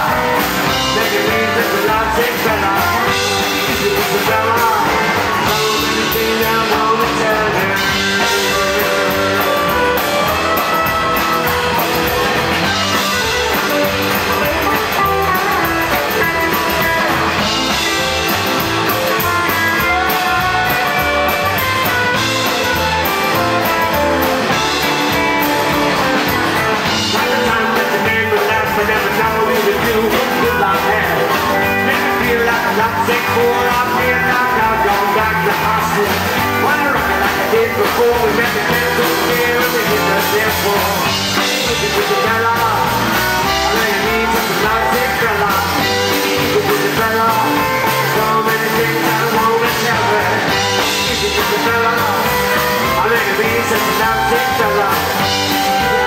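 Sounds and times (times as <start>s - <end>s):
drums: 0.0s - 56.0s
electric guitar: 0.0s - 56.0s
keyboard: 0.0s - 56.0s
upright bass: 0.0s - 56.0s.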